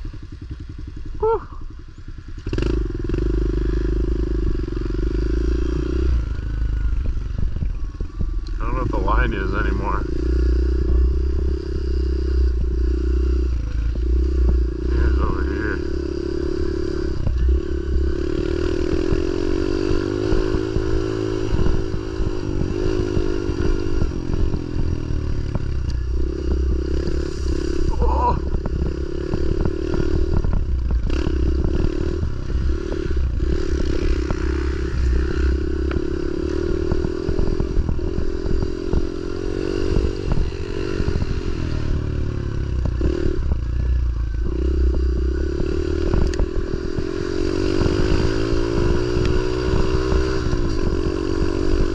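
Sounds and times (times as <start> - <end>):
pit bike engine revving: 0.0 - 51.9.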